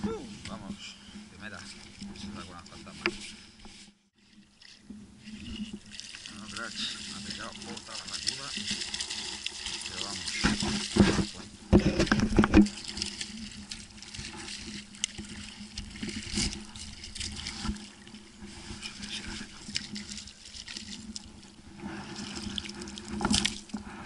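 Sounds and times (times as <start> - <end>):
water sloshing and splashing: 0.0 - 24.0
small irregular crackles: 0.8 - 24.0.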